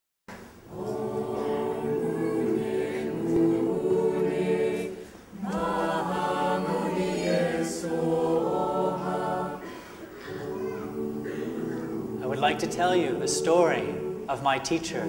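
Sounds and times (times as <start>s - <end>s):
choir singing long notes: 0.6s - 15.0s.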